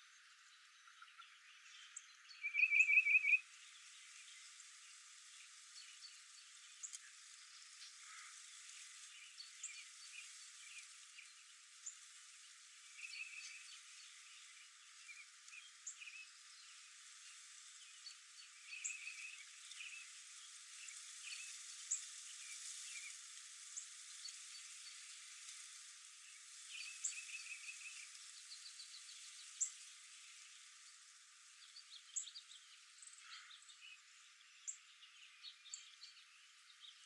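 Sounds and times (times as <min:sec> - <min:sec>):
outdoor hiss: 0:00.0 - 0:37.0
wild birds chirping: 0:00.0 - 0:37.0.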